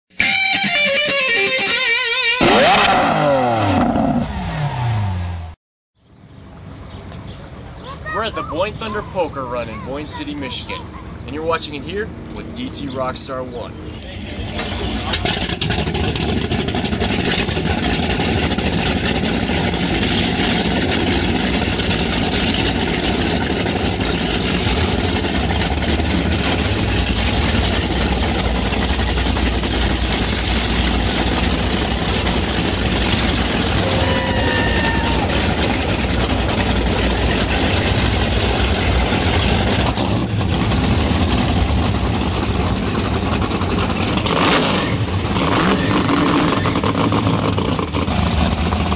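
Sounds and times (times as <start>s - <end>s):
boat engines idling: 6.5s - 48.9s.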